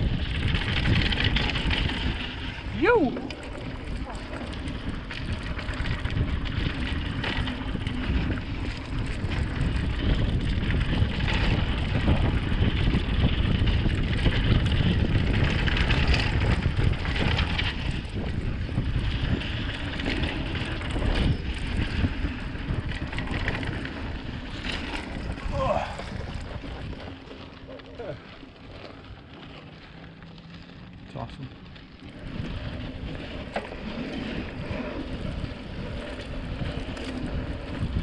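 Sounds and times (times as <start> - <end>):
wind on microphone: 0.0 - 27.3, 32.0 - 38.0
mountain bike rattling on dirt: 0.0 - 38.0.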